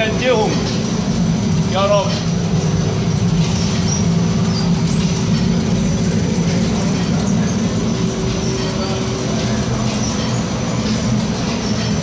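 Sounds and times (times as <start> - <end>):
loud machine drone: 0.0 - 12.0.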